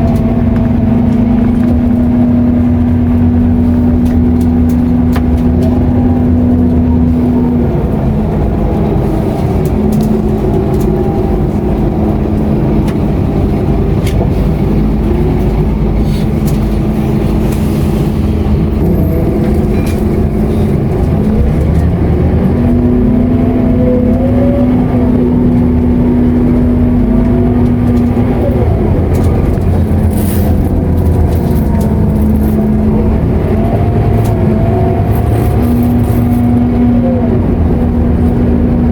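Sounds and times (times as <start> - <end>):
bus body rattling and clicking: 0.0 - 38.9
bus diesel engine running: 0.0 - 38.9
held whine: 0.0 - 38.9.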